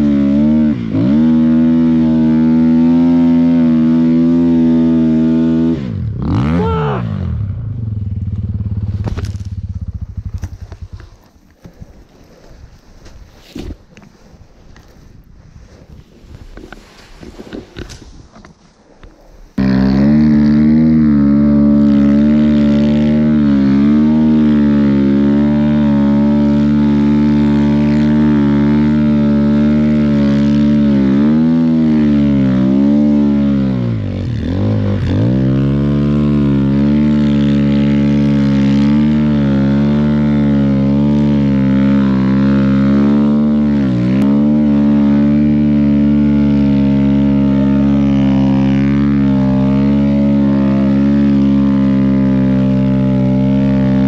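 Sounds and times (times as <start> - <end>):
dirt bike engine revving: 0.0 - 11.7, 19.6 - 54.0.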